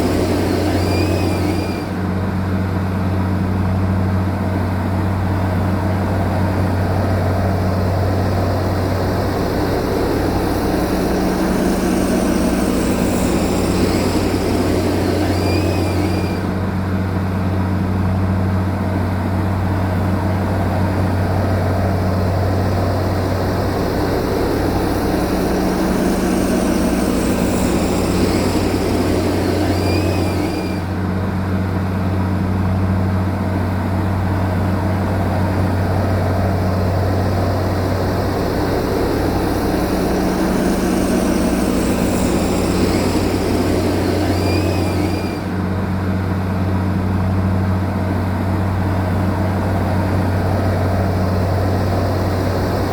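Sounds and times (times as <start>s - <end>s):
bulldozer diesel engine running: 0.0s - 52.9s
bulldozer working noise: 0.0s - 52.9s.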